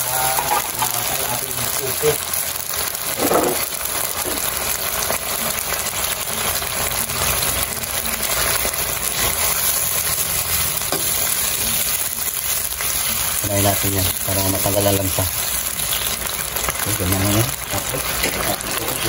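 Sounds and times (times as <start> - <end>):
fish sizzling in a wok: 0.0 - 19.0.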